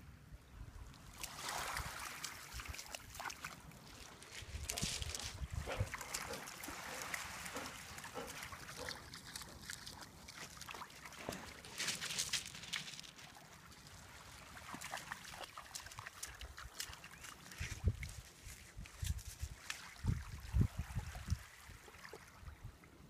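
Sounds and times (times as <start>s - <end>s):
shallow water splashing: 0.9s - 22.4s.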